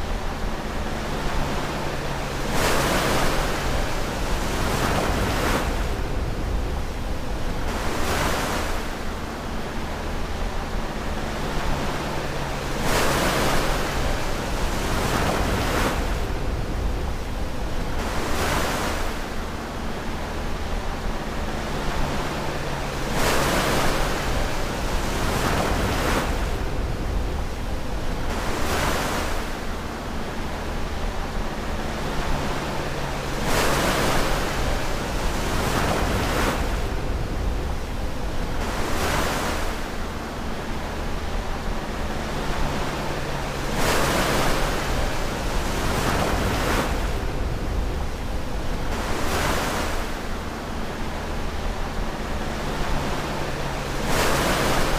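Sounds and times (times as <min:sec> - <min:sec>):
ocean waves washing in: 0:00.0 - 0:54.9.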